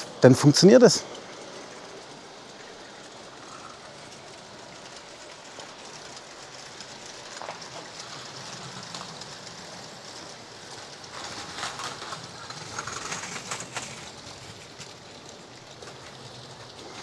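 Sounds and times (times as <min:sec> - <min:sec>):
toy train wheels rolling on track: 0:00.0 - 0:17.0.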